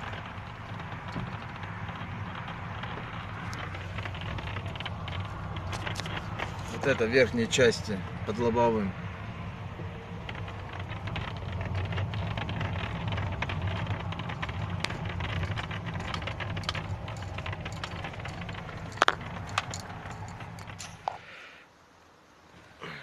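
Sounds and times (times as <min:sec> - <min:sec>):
dashboard panel crackling and clicking: 0:00.0 - 0:21.2
low car cabin hum: 0:00.0 - 0:23.0.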